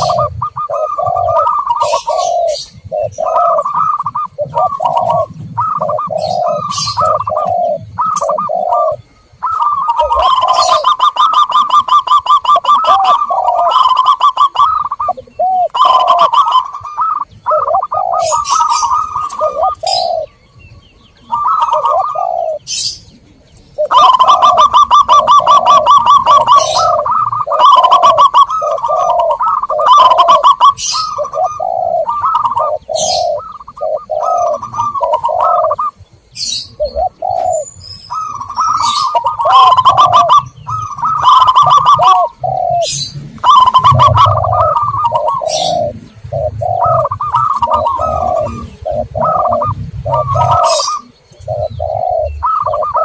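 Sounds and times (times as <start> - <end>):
doves cooing: 0.0 - 53.0
small birds chirping: 0.0 - 53.0.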